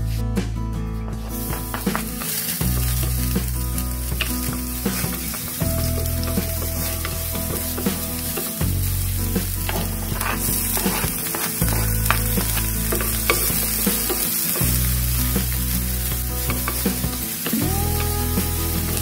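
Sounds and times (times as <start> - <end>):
garlic sizzling in hot oil: 1.3 - 19.0
wooden spatula stirring: 1.3 - 19.0.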